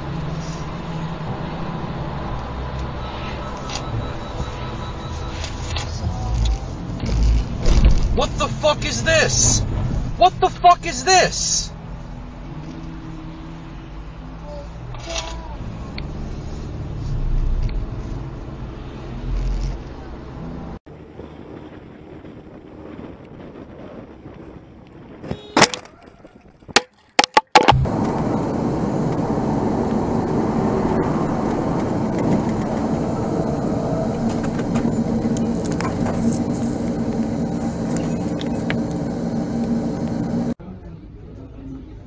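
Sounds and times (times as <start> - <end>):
low engine hum: 0.0 - 10.9, 11.7 - 25.2, 27.7 - 42.0
vehicle road noise: 0.0 - 42.0.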